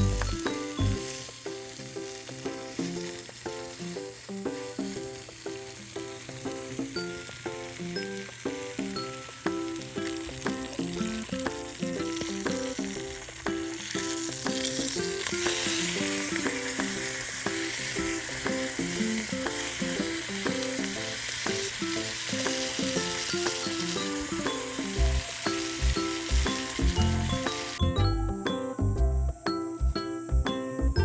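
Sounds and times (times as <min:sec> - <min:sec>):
background music: 0:00.0 - 0:31.0
food sizzling: 0:00.0 - 0:31.0.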